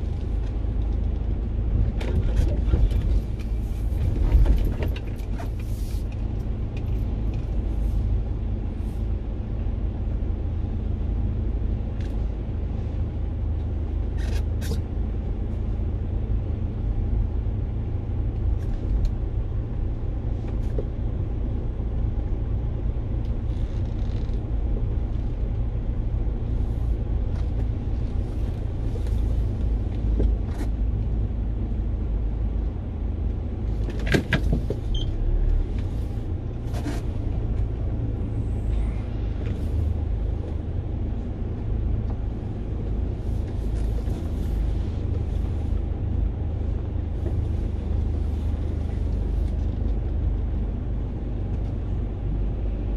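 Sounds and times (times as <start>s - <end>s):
low rumble: 0.0s - 14.3s, 14.9s - 52.9s.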